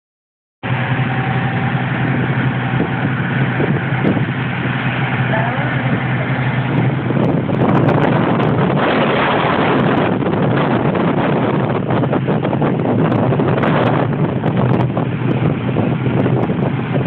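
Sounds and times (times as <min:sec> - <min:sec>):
motorboat engine running: 0:00.6 - 0:17.0
rush of noise: 0:00.6 - 0:17.0.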